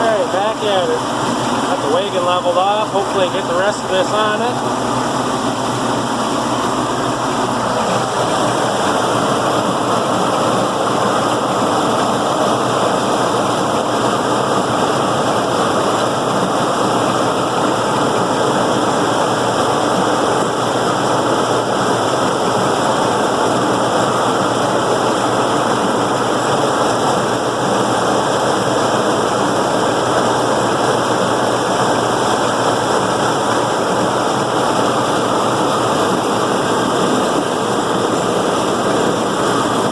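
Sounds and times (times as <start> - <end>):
corn picker mechanical rush: 0.0 - 39.9
tractor engine drone: 0.0 - 39.9.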